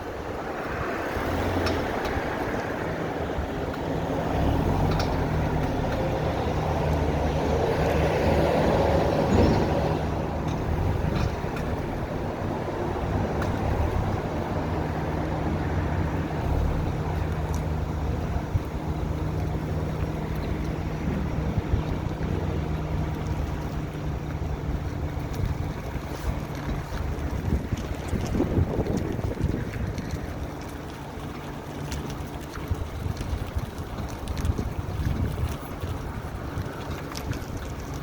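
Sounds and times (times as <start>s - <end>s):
car engine running: 3.3s - 38.0s.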